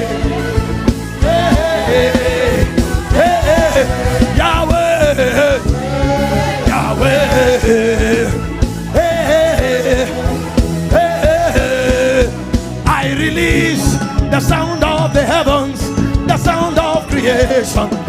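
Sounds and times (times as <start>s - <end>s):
band with steady drumbeat: 0.0s - 18.0s.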